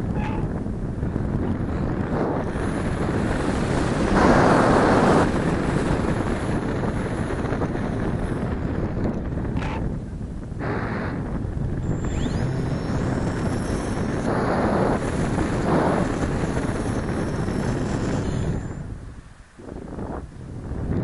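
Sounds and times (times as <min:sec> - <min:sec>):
electric motor whine: 0:00.0 - 0:20.2
wind rushing over microphone: 0:00.0 - 0:21.0.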